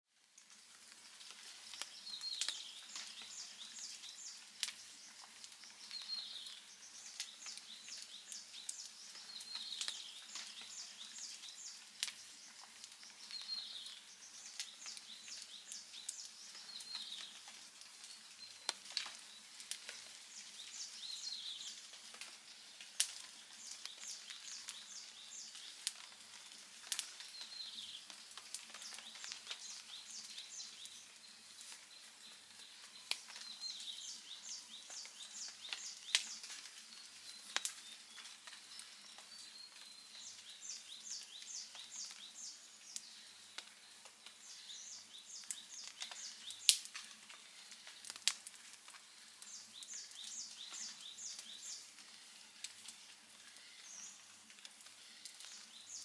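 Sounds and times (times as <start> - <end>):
wood fire crackling: 0.1 - 56.0
bird singing: 1.1 - 48.3, 49.0 - 52.2, 53.0 - 54.3, 55.0 - 56.0.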